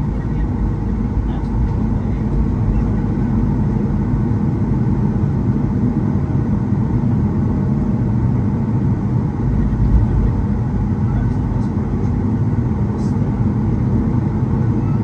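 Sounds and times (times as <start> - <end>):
aircraft cabin engine noise: 0.0 - 15.0.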